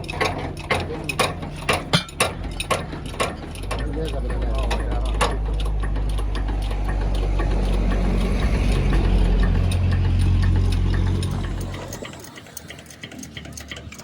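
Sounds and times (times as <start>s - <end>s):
engine humming steadily: 0.0s - 14.0s
light ticking: 0.0s - 14.0s.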